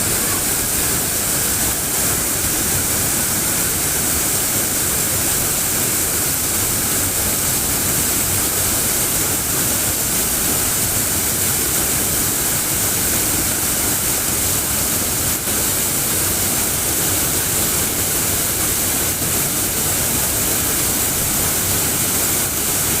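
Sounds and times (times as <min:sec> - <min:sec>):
water rushing steadily: 0:00.0 - 0:23.0.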